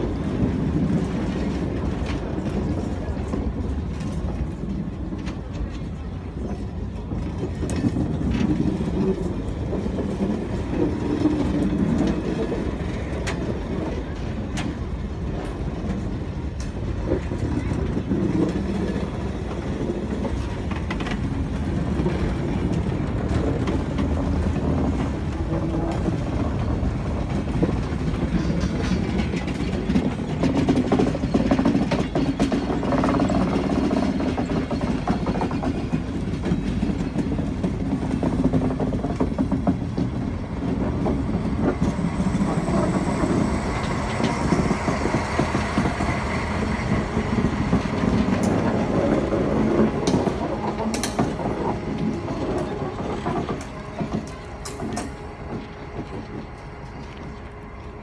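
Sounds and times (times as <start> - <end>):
diesel locomotive passing: 0.0 - 58.0
train wheels clicking over rail joints: 0.0 - 58.0.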